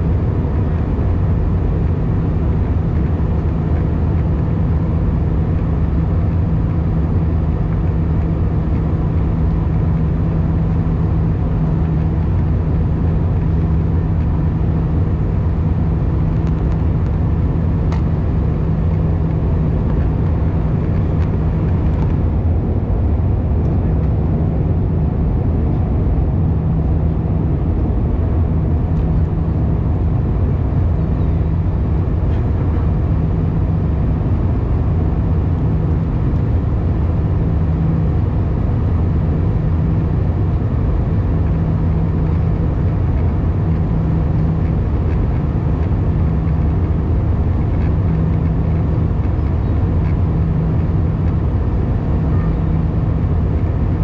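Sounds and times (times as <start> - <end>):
jet engine and airflow drone: 0.0 - 54.0
low hum: 0.0 - 54.0.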